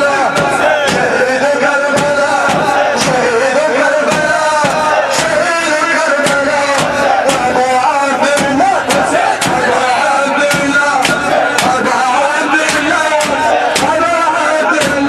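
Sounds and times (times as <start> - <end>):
person chanting a mournful melody: 0.0 - 15.0
sharp beats: 0.0 - 15.0.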